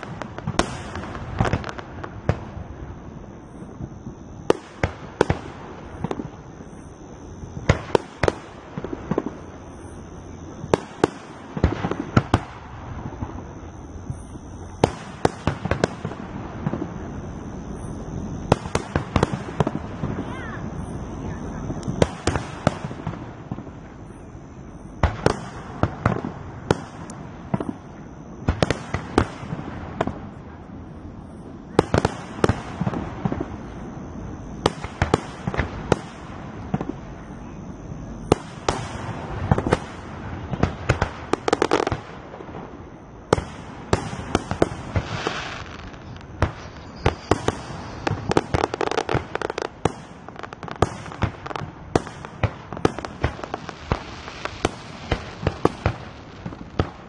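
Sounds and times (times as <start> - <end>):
fireworks bursting with sharp bangs: 0.0 - 57.0.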